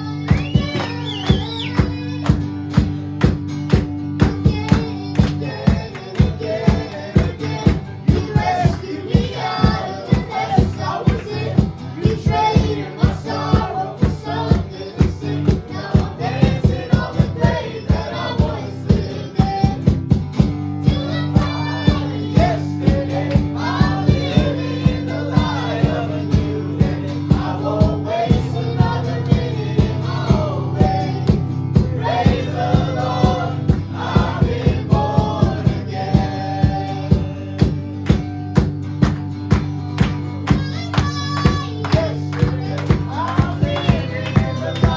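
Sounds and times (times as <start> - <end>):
voices singing: 0.0 - 2.8, 3.7 - 38.7, 40.4 - 44.9
drums keeping steady beat: 0.0 - 44.9.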